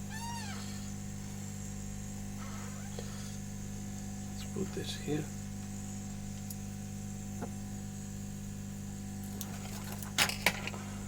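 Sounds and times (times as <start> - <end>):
hot-air station humming: 0.0 - 11.0.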